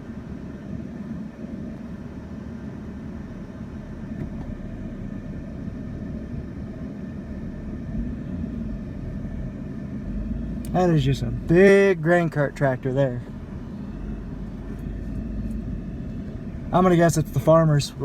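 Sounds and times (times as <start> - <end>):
diesel farm machinery rumbling: 0.0 - 18.0.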